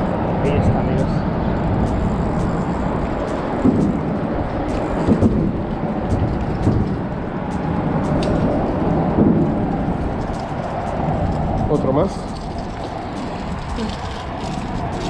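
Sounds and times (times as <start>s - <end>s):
deep rumble of bridge traffic: 0.0s - 15.0s.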